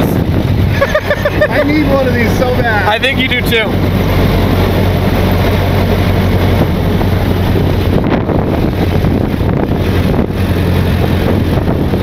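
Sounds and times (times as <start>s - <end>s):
car engine humming: 0.0s - 12.0s
wind buffeting microphone: 0.0s - 12.0s.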